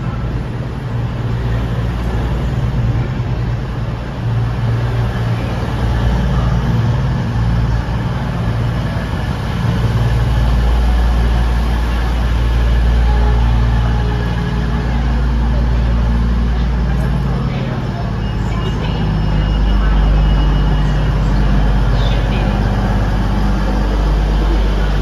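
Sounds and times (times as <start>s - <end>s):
diesel train engines droning: 0.0s - 25.0s.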